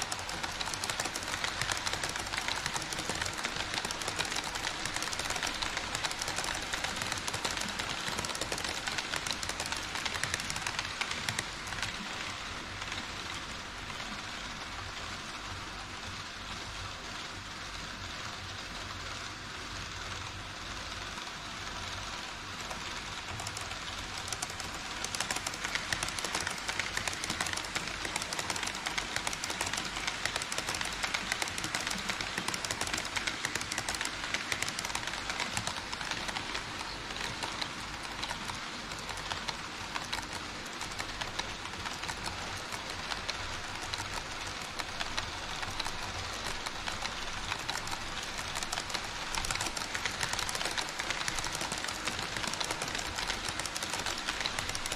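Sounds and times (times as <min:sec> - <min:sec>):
clicking over rail joints: 0:00.0 - 0:14.1, 0:22.4 - 0:54.9
model train wheels on rail: 0:00.0 - 0:54.9.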